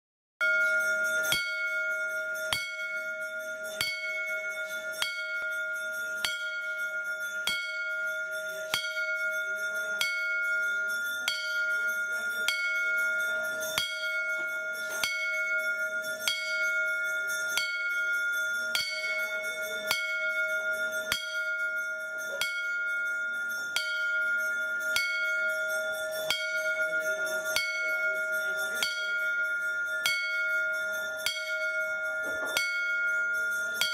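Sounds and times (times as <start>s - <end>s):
metal bell ringing: 0.4s - 33.9s.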